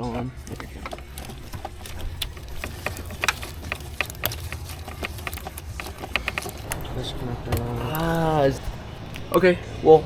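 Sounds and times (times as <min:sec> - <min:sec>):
clicks of tools and plastic parts: 0:00.0 - 0:09.4.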